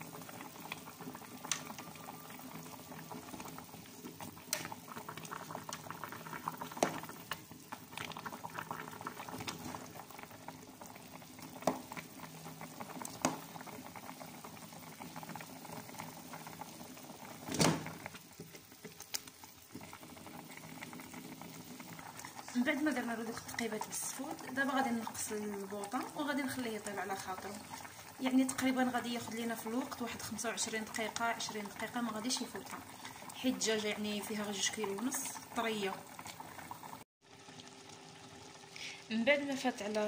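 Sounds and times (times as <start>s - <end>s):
sauce boiling in a pot: 0.0s - 40.0s.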